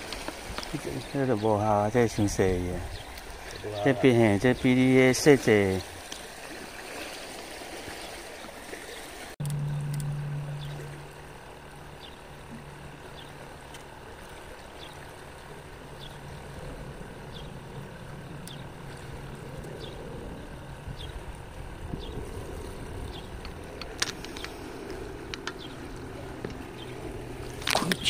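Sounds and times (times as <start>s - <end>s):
lapping water: 0.0s - 9.4s, 13.6s - 28.0s.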